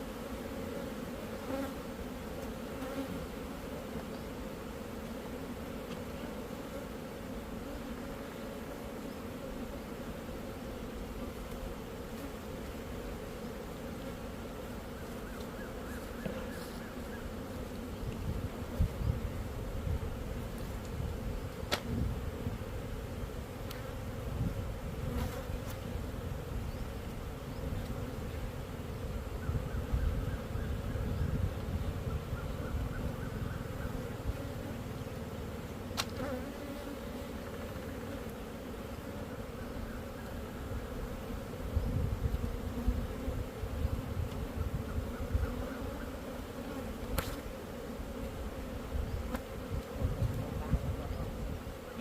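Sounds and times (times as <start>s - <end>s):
honeybees buzzing: 0.0s - 52.0s.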